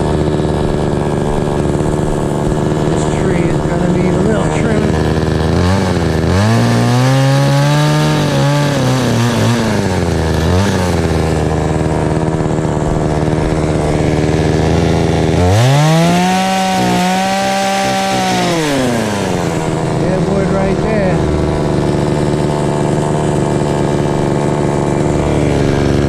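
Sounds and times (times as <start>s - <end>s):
chainsaw idling and revving: 0.0s - 26.0s.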